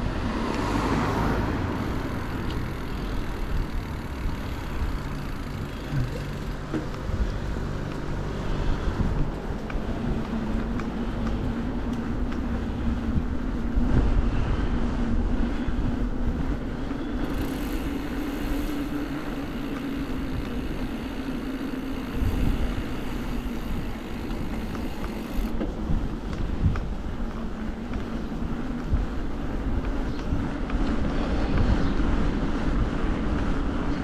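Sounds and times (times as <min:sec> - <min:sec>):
road noise: 0:00.0 - 0:34.0
wind rushing over microphone: 0:00.0 - 0:34.0.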